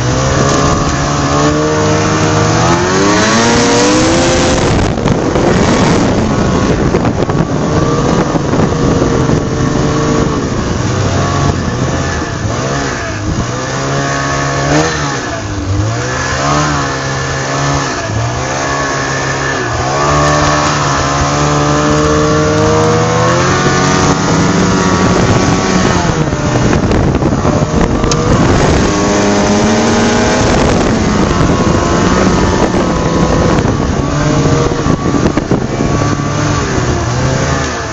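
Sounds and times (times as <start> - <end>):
car engine revving: 0.0 - 37.9.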